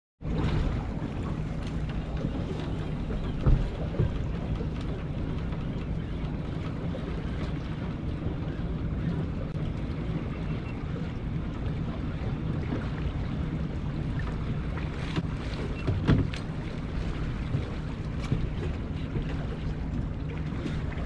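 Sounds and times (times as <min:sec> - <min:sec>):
boat motor humming: 0:00.2 - 0:21.0
wind buffeting microphone: 0:00.2 - 0:21.0.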